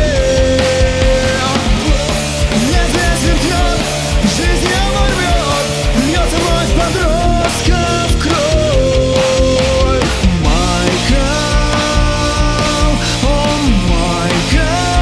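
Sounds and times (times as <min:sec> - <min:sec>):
bass: 0:00.0 - 0:15.0
drums: 0:00.0 - 0:15.0.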